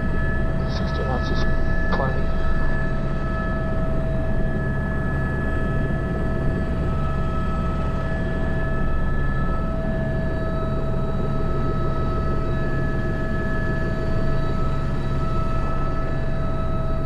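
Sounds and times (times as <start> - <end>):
helicopter rotor rumble: 0.0 - 17.0
helicopter turbine whine: 0.0 - 17.0.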